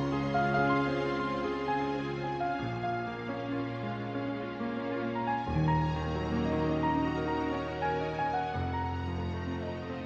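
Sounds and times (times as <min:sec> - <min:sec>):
slow instrumental music: 0:00.0 - 0:10.0.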